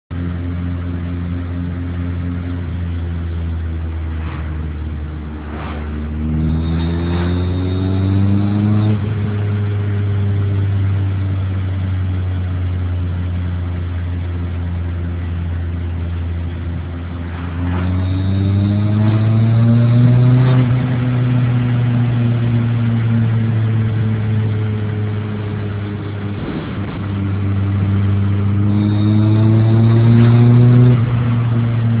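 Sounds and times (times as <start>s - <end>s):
car engine revving: 0.1s - 32.0s.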